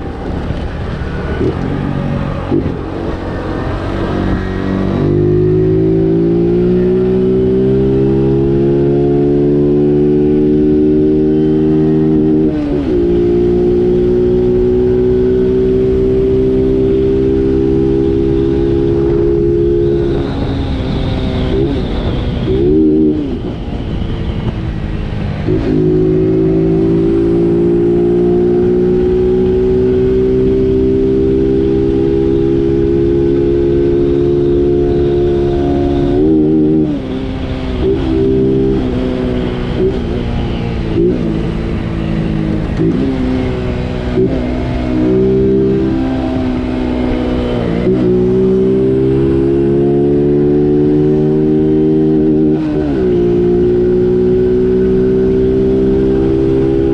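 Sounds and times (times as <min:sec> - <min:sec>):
motorcycle engine droning: 0:00.0 - 0:56.9.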